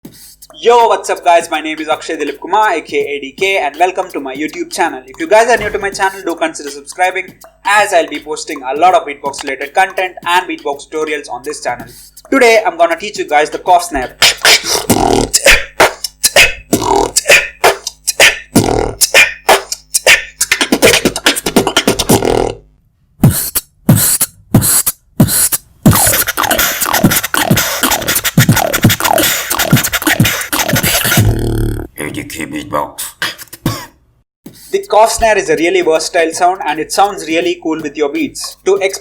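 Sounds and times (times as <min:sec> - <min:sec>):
beatboxing: 0:00.0 - 0:39.0.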